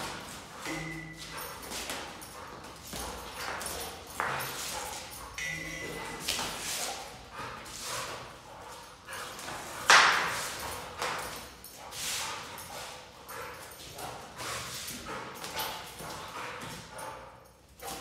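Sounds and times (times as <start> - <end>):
dog scuffing on concrete: 0.0 - 18.0.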